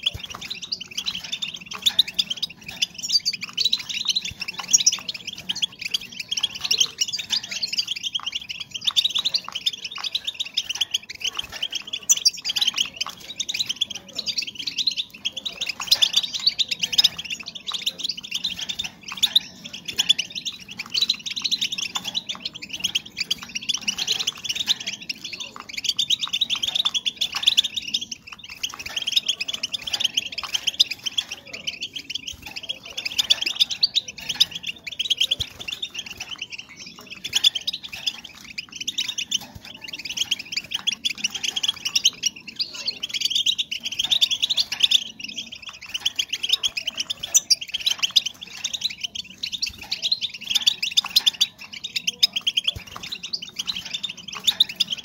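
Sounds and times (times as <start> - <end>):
goldfinches twittering and chirping: 0.0 - 55.0.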